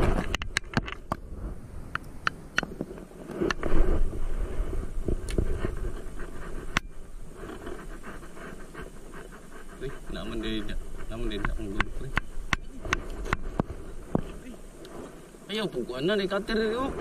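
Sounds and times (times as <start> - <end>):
steady low rumble: 1.1 - 15.5.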